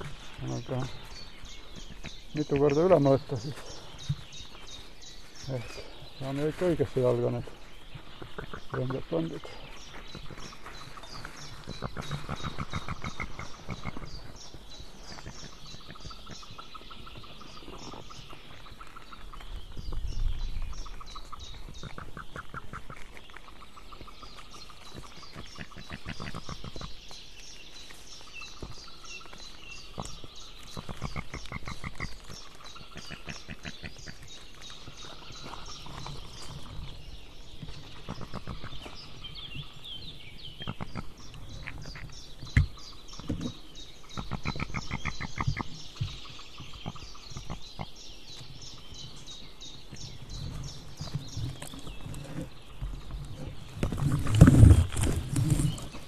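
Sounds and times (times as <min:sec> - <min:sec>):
eagle chicks chittering: 0:00.0 - 0:56.0.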